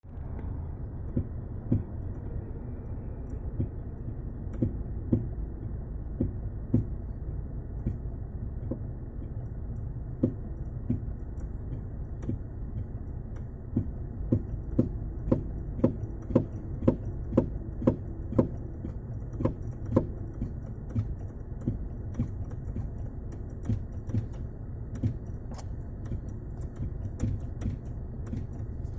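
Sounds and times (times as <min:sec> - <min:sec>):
steady low rumble: 0:00.0 - 0:28.9
brake booster knocking: 0:00.1 - 0:28.9.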